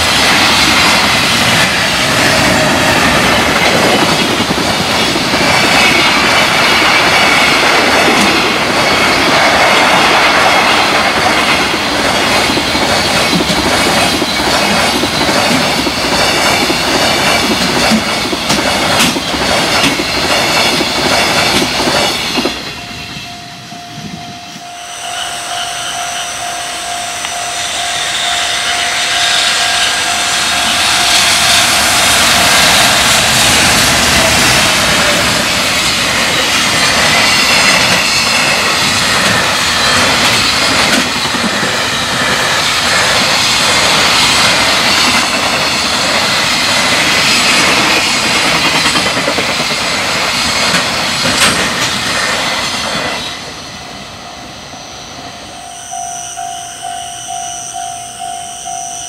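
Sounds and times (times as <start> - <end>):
train wheels clattering on rails: 0.0 - 24.6, 27.3 - 54.4
railway crossing alarm ringing: 0.0 - 59.0.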